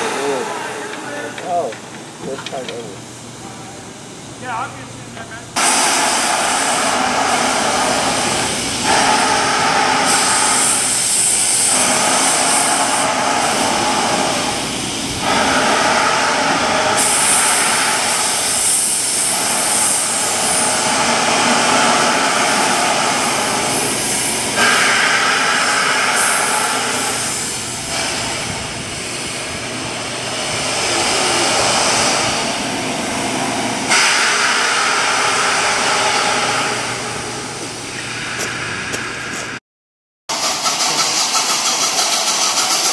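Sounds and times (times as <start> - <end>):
steam locomotive hissing: 0.0 - 39.6, 40.3 - 42.9.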